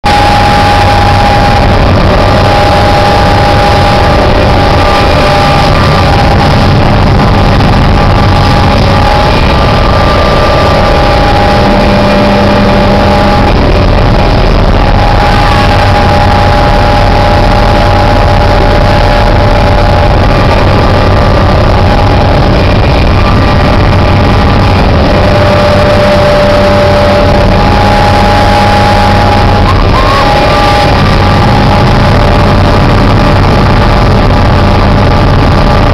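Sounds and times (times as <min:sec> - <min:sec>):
constant whine: 0:00.0 - 0:35.9
helicopter engine and rotor noise: 0:00.0 - 0:35.9.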